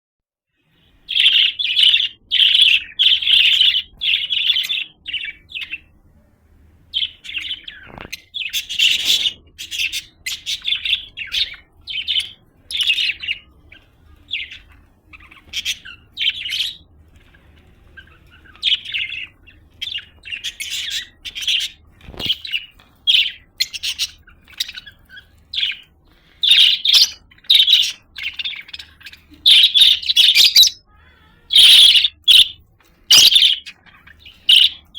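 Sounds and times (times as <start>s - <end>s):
budgerigar chirping and warbling: 1.1s - 5.9s, 6.9s - 34.9s.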